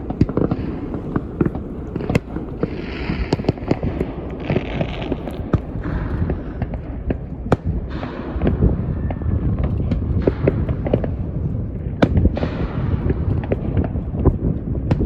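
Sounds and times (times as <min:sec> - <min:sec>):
hissing crackle: 0:00.0 - 0:14.0
fireworks bangs and crackles: 0:00.0 - 0:15.0.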